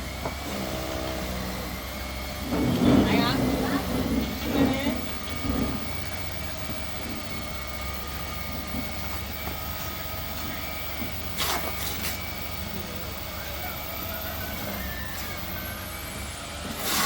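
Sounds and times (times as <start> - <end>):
machine droning: 0.0 - 17.0.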